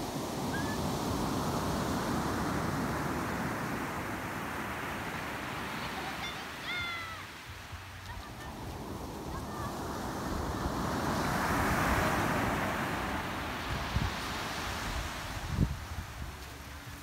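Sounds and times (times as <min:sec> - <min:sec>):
waves breaking on pebble beach: 0:00.0 - 0:17.0.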